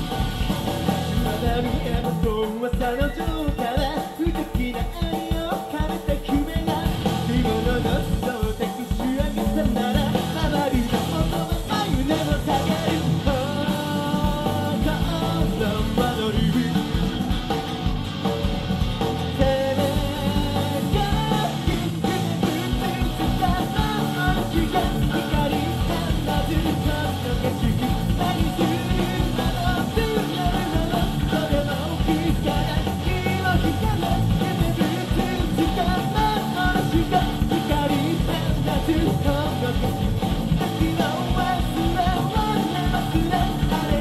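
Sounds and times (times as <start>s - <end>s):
man singing: 0.0s - 17.4s, 19.2s - 44.0s
drums: 0.0s - 44.0s
electric guitars: 0.0s - 44.0s.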